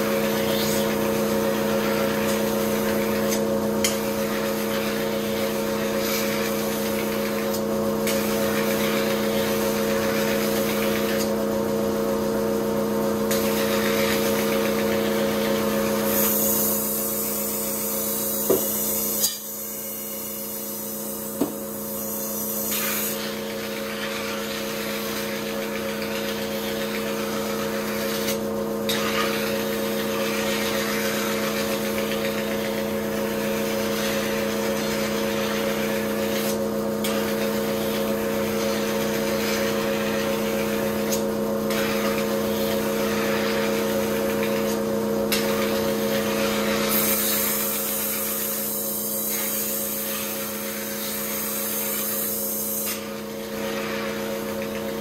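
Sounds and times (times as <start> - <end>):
steady motor hum: 0.0 - 55.0.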